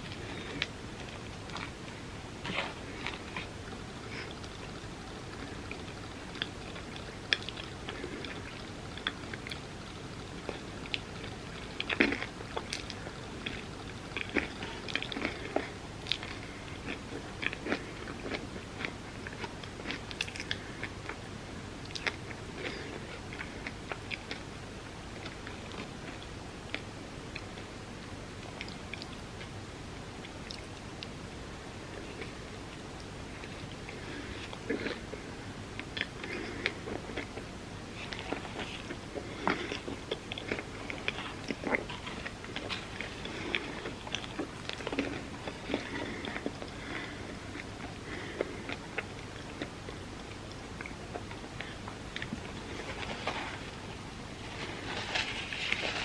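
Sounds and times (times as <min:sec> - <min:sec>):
close chewing and biting: 0:00.0 - 0:24.5, 0:33.4 - 0:56.0
food crunching: 0:00.0 - 0:24.5, 0:32.0 - 0:56.0.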